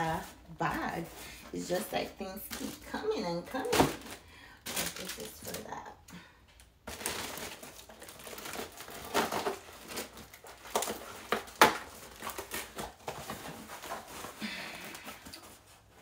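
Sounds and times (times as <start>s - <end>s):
packaging rustling and crinkling: 0.0s - 5.8s, 6.8s - 16.0s.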